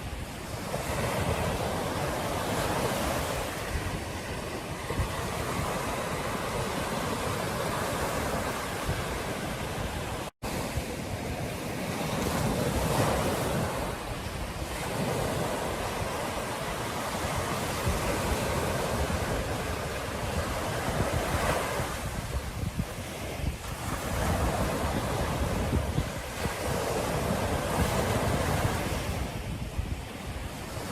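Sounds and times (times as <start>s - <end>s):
ocean surf breaking on beach: 0.0s - 30.9s
wind noise on microphone: 0.0s - 30.9s.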